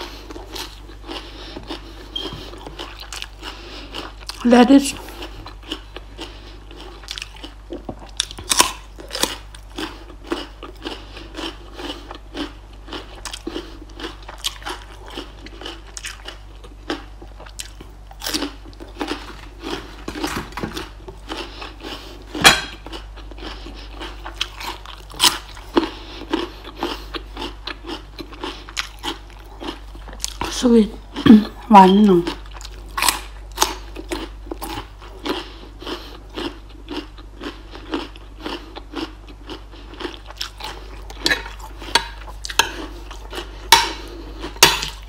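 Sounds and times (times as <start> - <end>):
crunching raw vegetables: 0.0 - 45.0.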